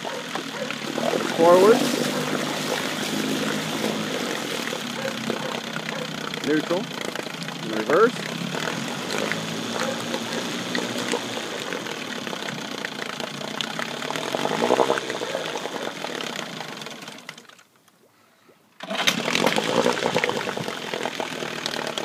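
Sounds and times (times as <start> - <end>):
outboard motor running: 0.0 - 17.7, 18.8 - 22.0.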